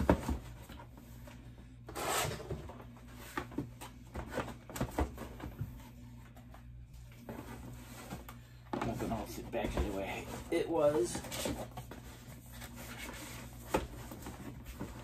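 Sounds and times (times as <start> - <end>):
cardboard boxes rustling: 0.0 - 15.0
low steady hum: 0.0 - 15.0.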